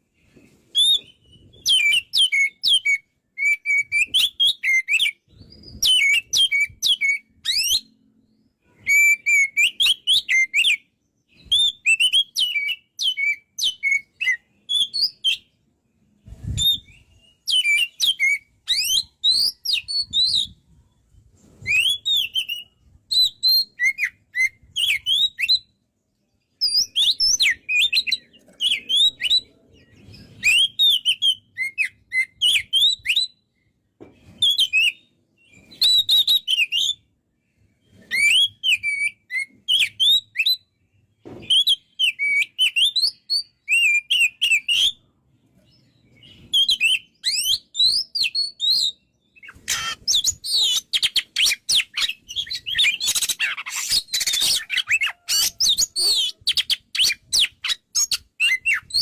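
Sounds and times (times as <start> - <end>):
bird singing whistles: 0.7 - 15.6, 16.4 - 20.6, 21.6 - 25.8, 26.6 - 33.6, 34.3 - 37.1, 37.8 - 40.8, 41.4 - 45.1, 46.1 - 59.0.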